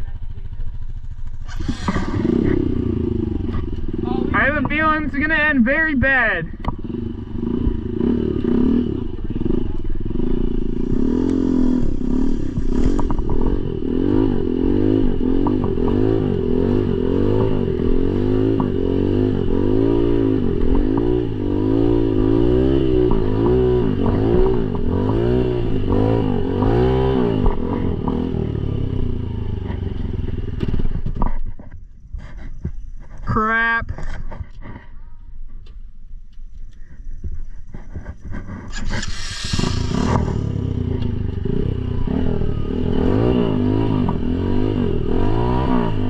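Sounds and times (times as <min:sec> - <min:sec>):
dirt bike engine revving: 0:00.0 - 0:31.3, 0:36.8 - 0:46.0.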